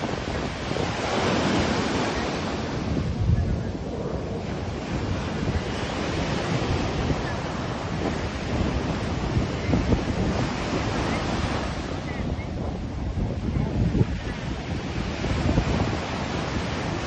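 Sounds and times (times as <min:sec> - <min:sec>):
sea surf breaking: 0:00.0 - 0:17.0
wind buffeting microphone: 0:00.0 - 0:17.0.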